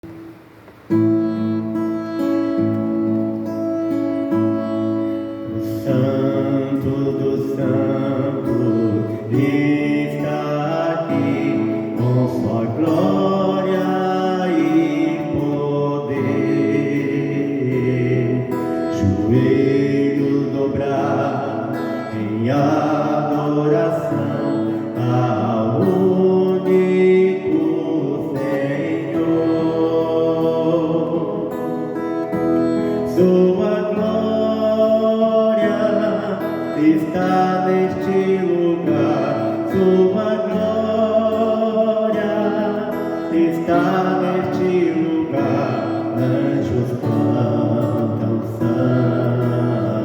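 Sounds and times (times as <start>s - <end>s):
instrumental accompaniment: 0.0s - 50.0s
worship song singing: 0.0s - 50.0s.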